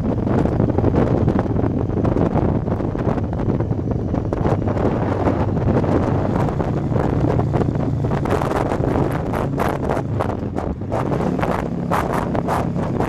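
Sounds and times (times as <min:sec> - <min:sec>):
low engine drone: 0:00.0 - 0:13.0
wind buffeting microphone: 0:00.0 - 0:13.0.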